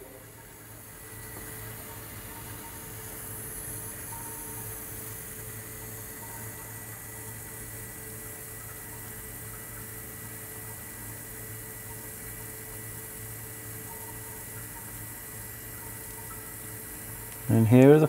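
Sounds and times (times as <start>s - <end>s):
electrical hum with whine: 0.0s - 18.0s.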